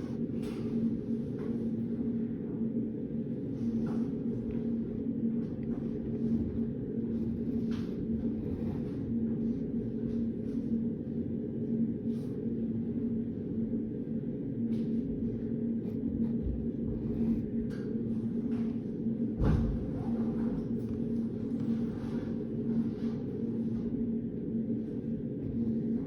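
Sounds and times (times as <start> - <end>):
low droning hum: 0.0 - 26.0.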